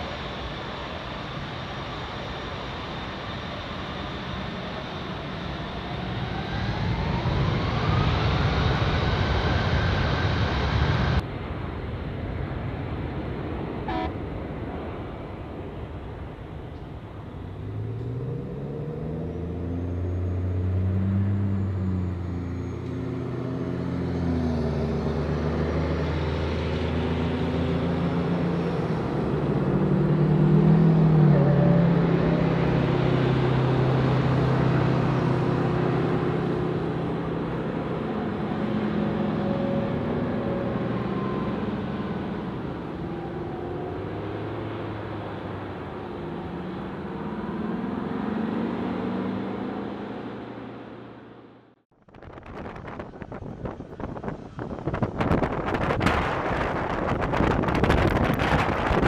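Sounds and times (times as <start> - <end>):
deep jet engine drone: 0.0 - 59.0
rising jet engine whine: 0.0 - 59.0.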